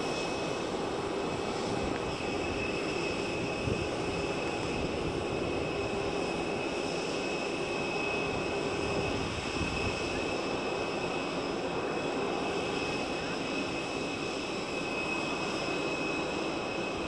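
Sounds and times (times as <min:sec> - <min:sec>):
airliner turbine whine and hum: 0:00.0 - 0:17.0.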